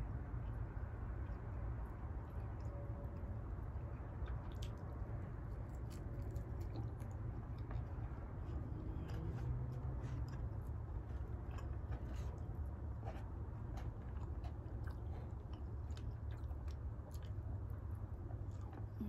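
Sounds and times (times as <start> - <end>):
steady low hum: 0.0 - 19.0
person chewing food: 0.1 - 19.0.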